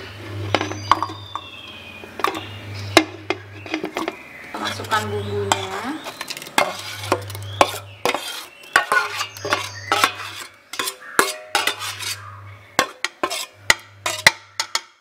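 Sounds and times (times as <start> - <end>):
metal spoon scraping a pot: 2.2 - 15.0.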